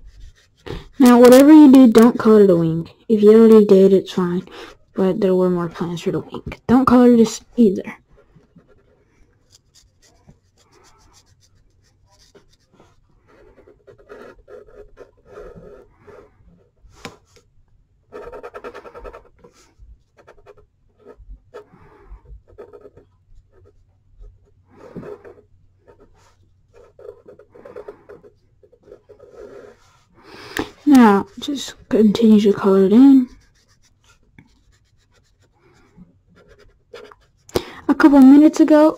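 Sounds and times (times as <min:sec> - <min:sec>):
pencil scratching on paper: 0:00.0 - 0:02.5, 0:03.3 - 0:17.4, 0:18.1 - 0:38.9.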